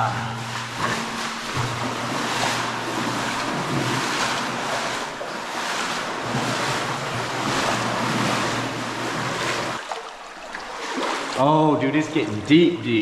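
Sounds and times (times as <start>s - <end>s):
water rushing and sloshing: 0.0s - 13.0s.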